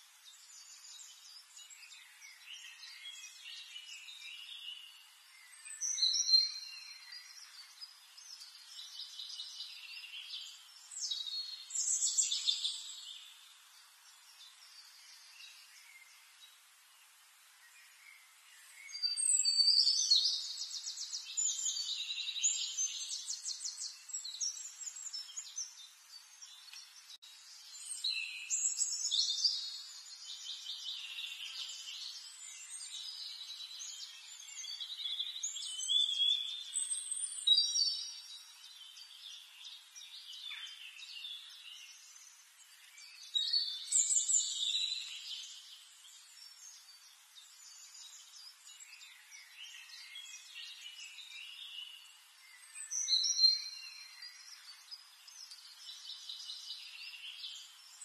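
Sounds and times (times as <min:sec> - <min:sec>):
birds chirping and singing: 0:00.3 - 0:16.7, 0:17.5 - 0:58.0.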